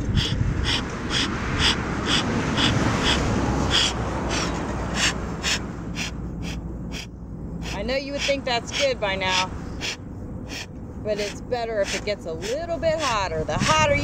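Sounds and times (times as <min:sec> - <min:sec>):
bellows puffing air: 0:00.0 - 0:14.0.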